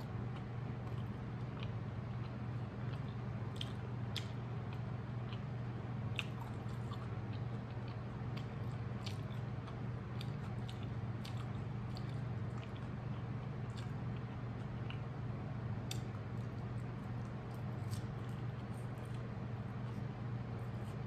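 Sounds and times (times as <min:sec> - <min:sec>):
person chewing food: 0:00.0 - 0:15.2, 0:15.8 - 0:21.0
steady low hum: 0:00.0 - 0:21.0.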